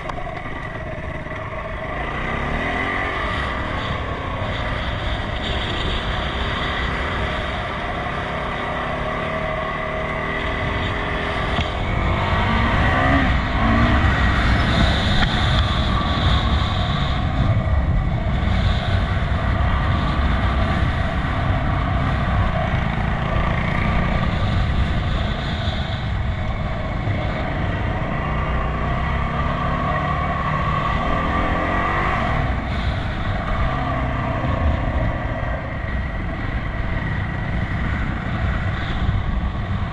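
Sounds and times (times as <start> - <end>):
motorcycle engine running: 0.0 - 39.9
wind and ground noise: 0.0 - 39.9.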